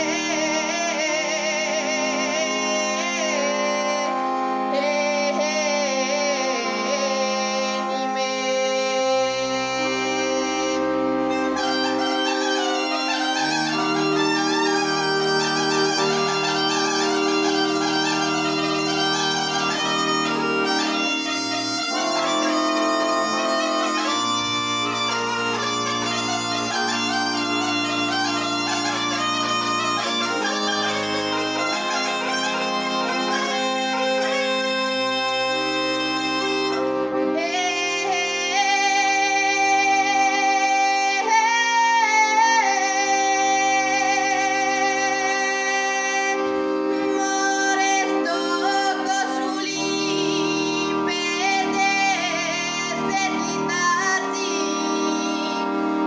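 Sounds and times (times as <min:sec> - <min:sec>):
bagpipe melody over drone: 0:00.0 - 0:56.0.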